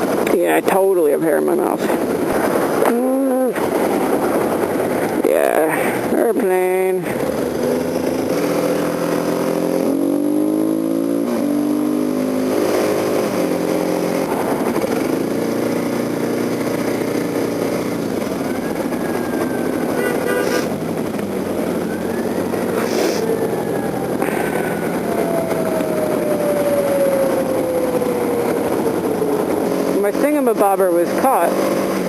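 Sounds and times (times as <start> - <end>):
wind noise: 0.0 - 32.0
motorcycle engine revving: 2.0 - 32.0.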